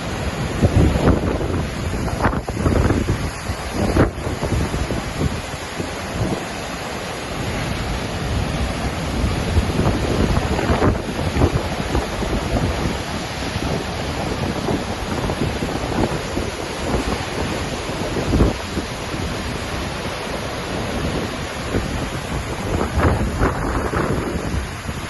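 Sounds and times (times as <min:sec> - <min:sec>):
waterfall roar: 0:00.0 - 0:25.0
wind buffeting microphone: 0:00.0 - 0:25.0.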